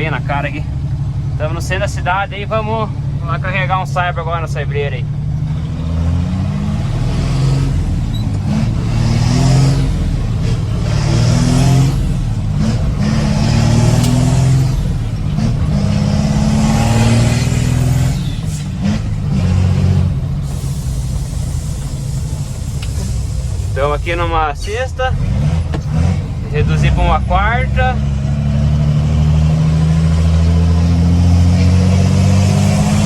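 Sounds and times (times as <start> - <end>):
truck diesel engine: 0.0 - 33.0.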